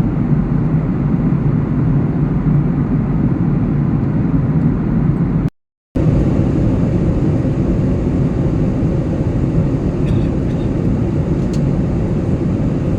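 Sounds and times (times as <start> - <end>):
airliner cabin engine rush: 0.0 - 12.9.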